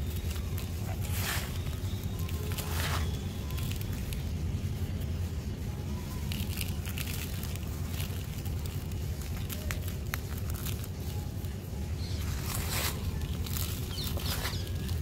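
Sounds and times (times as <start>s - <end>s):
dry mud crumbling by hand: 0.0s - 4.4s, 6.0s - 15.0s
steady low hum: 0.0s - 15.0s.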